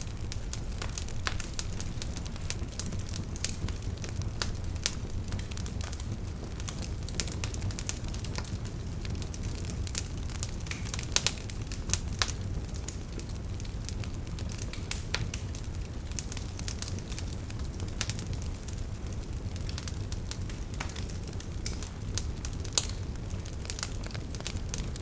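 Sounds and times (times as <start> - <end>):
campfire crackling and popping: 0.0 - 25.0
low rumble of fire: 0.0 - 25.0.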